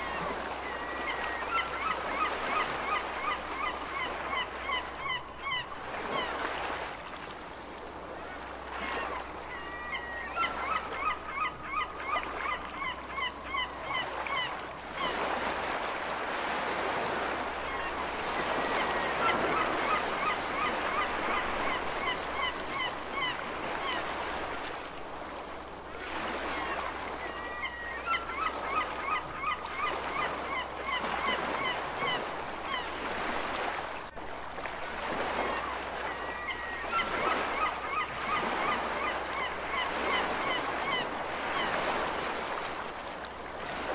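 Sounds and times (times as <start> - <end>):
gulls calling: 0.0 - 6.8, 8.2 - 15.8, 17.1 - 24.4, 26.2 - 33.8, 35.2 - 42.6
ocean waves: 0.0 - 43.9.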